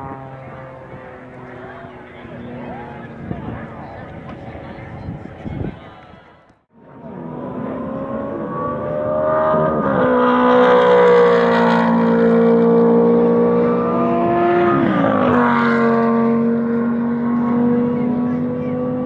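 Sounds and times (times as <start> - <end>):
sports car engines passing: 0.0 - 5.8, 6.8 - 19.0.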